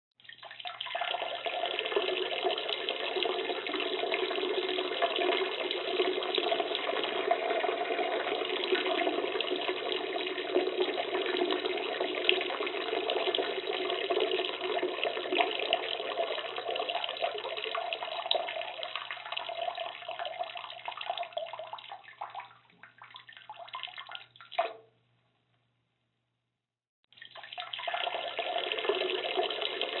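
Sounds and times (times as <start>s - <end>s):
water running: 0.2s - 24.8s, 27.1s - 30.0s.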